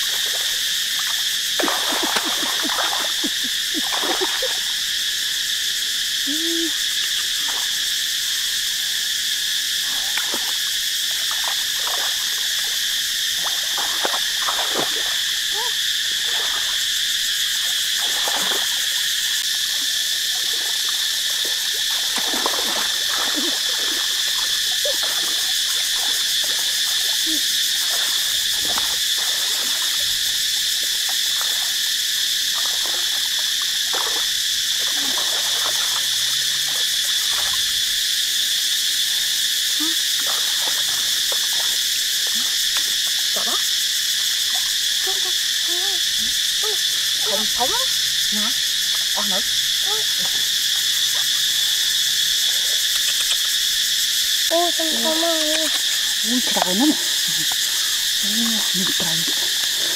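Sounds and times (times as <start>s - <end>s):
frogs and insects chorus: 0.0s - 59.9s.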